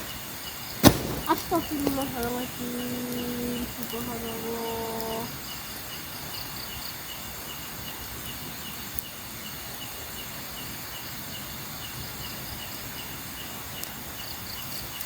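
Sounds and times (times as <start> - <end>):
night insects chirping: 0.0 - 15.0
steady hiss: 0.0 - 15.0.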